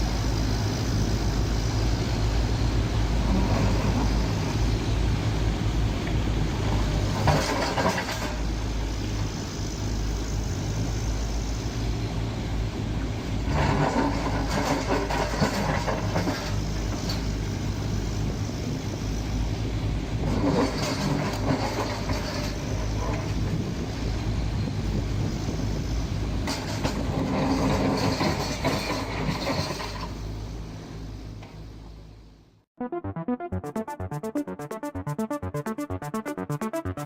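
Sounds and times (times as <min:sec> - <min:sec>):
excavator diesel engine running: 0:00.0 - 0:30.4.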